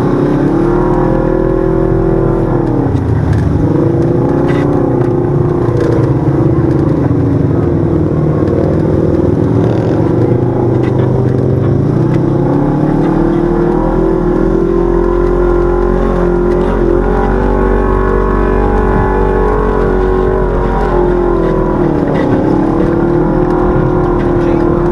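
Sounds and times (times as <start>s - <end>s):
utv engine running under throttle: 0.0s - 24.9s.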